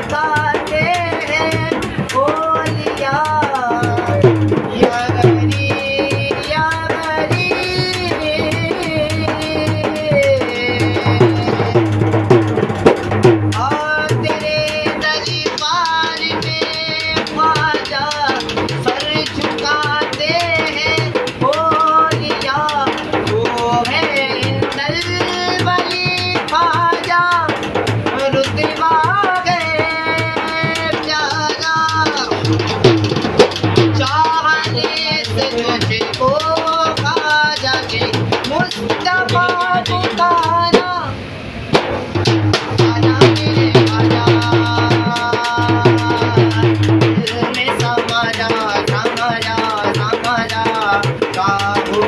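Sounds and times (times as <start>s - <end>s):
hand drum strokes and slaps: 0.0s - 41.0s, 41.7s - 52.0s
man singing: 0.0s - 41.2s, 42.2s - 52.0s.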